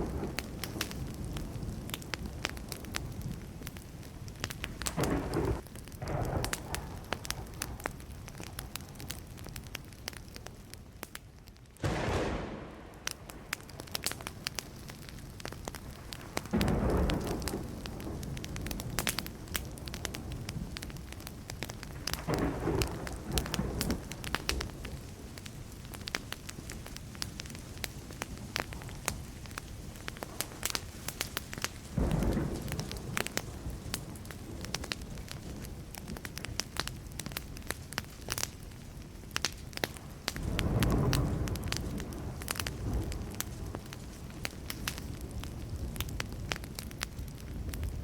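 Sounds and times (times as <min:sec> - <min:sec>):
thunder rumbling: 0:00.0 - 0:09.7, 0:11.8 - 0:31.0, 0:31.9 - 0:37.7, 0:40.0 - 0:48.0
burning wood crackling: 0:00.0 - 0:48.0.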